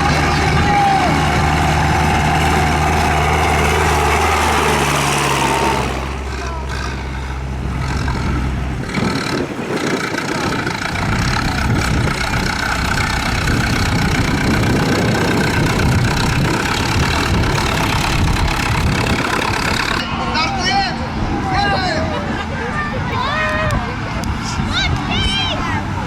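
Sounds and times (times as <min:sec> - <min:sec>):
tractor engine running: 0:00.0 - 0:21.4.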